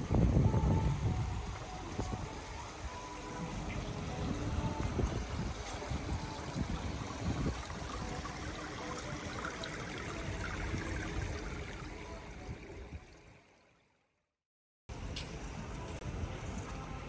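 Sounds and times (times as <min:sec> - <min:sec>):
pool water running and trickling: 0:00.0 - 0:14.2, 0:14.9 - 0:17.0.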